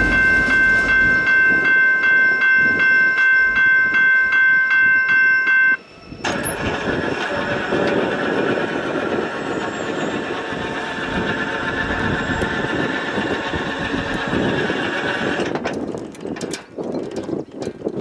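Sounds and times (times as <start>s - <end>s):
steel wheels rumbling on rail: 0.0s - 18.0s.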